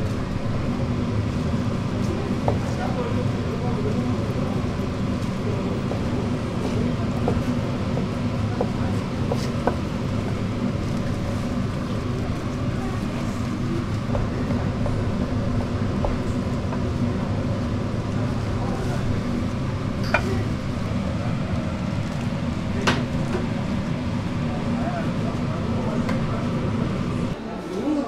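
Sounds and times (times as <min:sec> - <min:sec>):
steady low rumble: 0:00.0 - 0:27.4.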